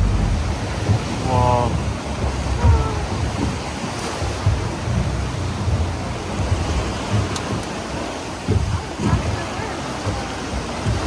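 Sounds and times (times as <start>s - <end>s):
sea water washing against rocks: 0.0s - 11.0s
wind buffeting microphone: 0.0s - 11.0s.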